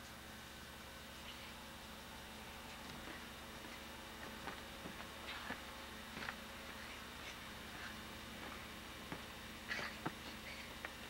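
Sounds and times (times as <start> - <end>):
camcorder hiss and hum: 0.0 - 11.0.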